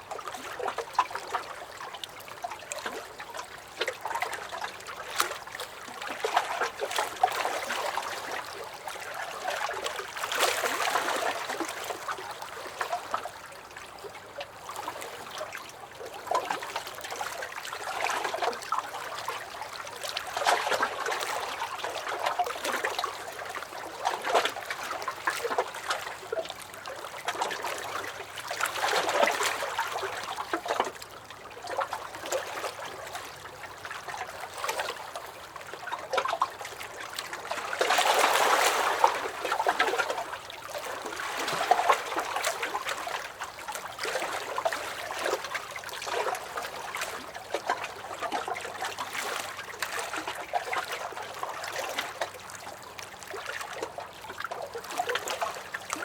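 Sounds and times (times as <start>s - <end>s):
waves lapping against a dock: 0.0s - 56.0s.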